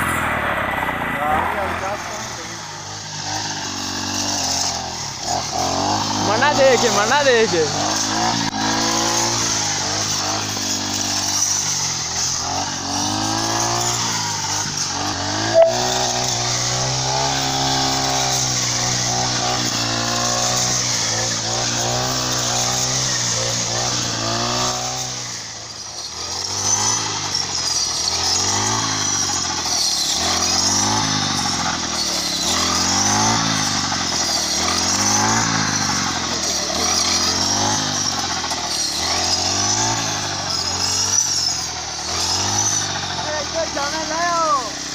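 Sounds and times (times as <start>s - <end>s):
brush cutter engine running: 0.0s - 44.9s.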